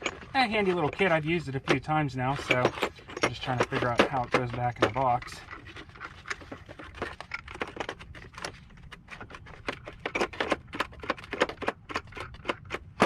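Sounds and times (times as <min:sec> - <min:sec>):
small metal parts clinking: 0:00.0 - 0:13.0.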